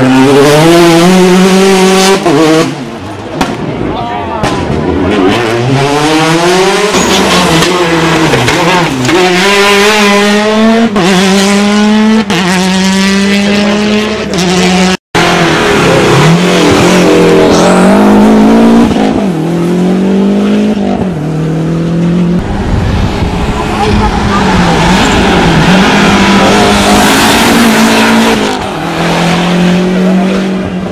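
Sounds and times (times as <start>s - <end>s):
rally car engines revving past: 4.6s - 30.9s.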